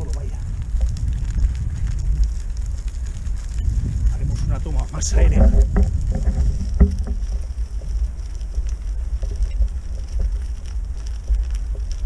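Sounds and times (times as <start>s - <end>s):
tyre rumbling over rough ground: 0.0s - 12.0s.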